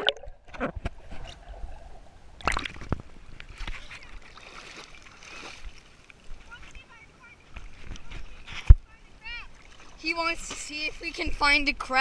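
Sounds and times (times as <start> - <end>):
water sloshing and splashing: 0.0 - 11.5.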